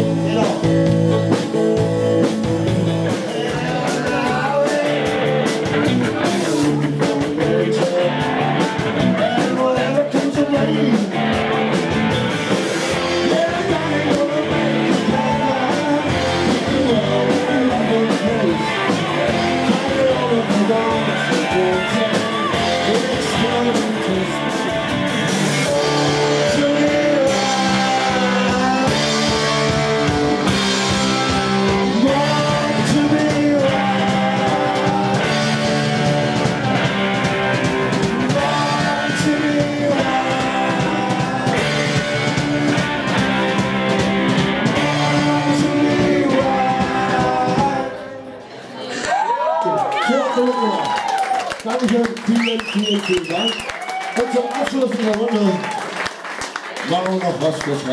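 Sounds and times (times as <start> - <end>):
man singing: 0.0 - 11.7, 12.8 - 43.6, 44.3 - 48.4
live rock band: 0.0 - 48.3.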